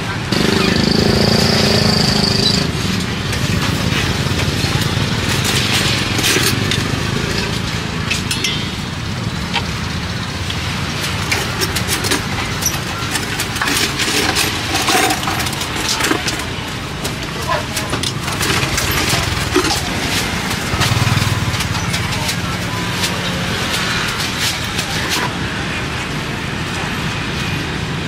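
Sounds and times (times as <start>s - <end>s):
vehicle engine running: 0.3s - 25.1s
clicks and clatter: 0.3s - 25.4s.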